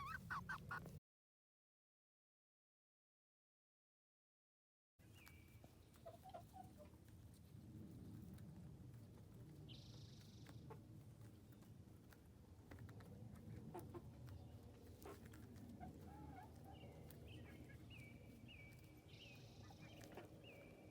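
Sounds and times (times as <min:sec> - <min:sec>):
young chickens clucking: 0:00.0 - 0:01.0, 0:05.1 - 0:20.9.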